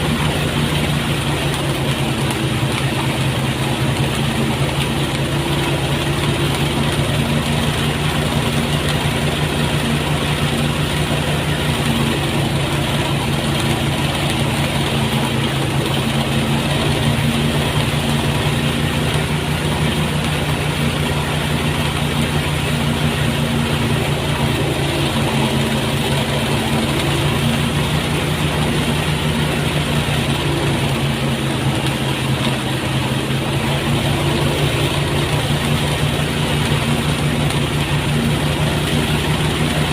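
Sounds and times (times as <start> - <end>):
threshing machine running: 0.0 - 39.9.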